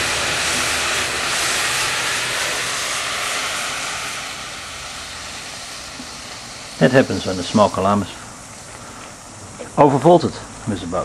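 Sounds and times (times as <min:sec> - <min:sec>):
smoke mixture burning with hiss: 0:00.0 - 0:11.0.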